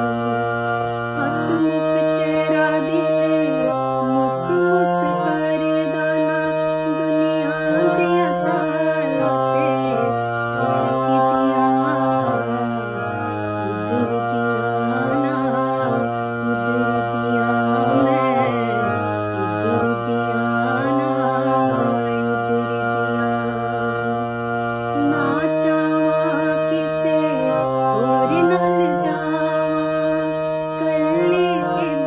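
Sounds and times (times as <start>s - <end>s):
harmonium chords: 0.0s - 32.0s
woman singing slow song: 1.0s - 24.2s, 24.9s - 32.0s.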